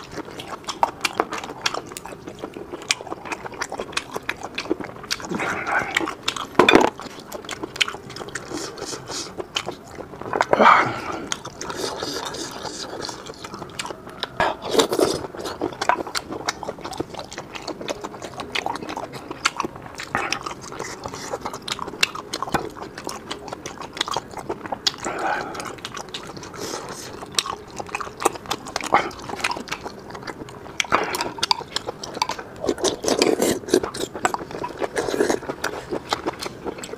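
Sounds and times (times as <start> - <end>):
chewing rubbery meat: 0.0 - 36.9.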